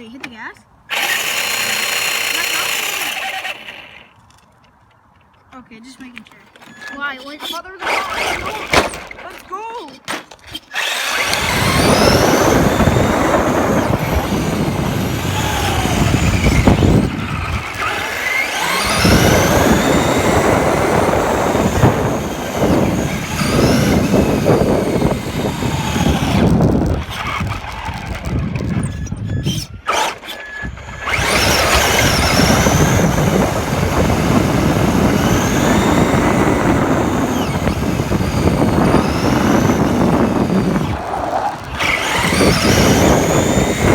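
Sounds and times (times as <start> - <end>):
electric motor whining: 0.9 - 4.2, 6.6 - 9.4, 10.4 - 43.9
rough running noise: 6.0 - 43.9.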